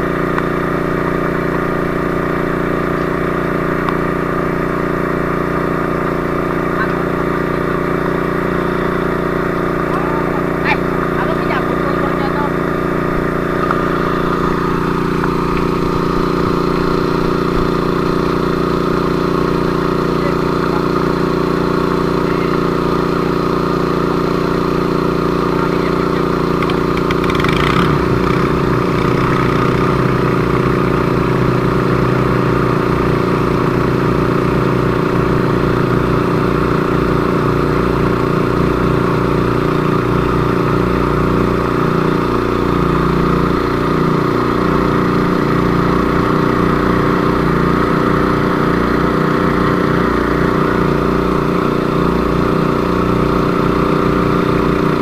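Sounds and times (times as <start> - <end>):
engine running loudly: 0.0 - 55.0.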